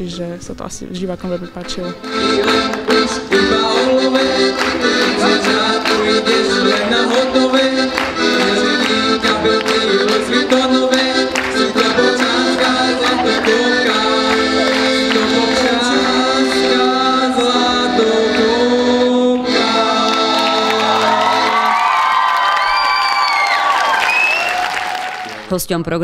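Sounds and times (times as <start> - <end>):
accordion playing dance tune: 0.9 - 25.4.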